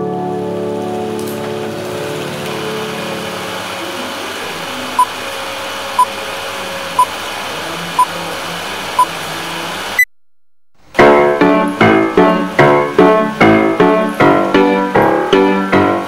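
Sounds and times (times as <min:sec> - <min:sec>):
steady hiss: 0:00.6 - 0:10.0, 0:10.8 - 0:16.0.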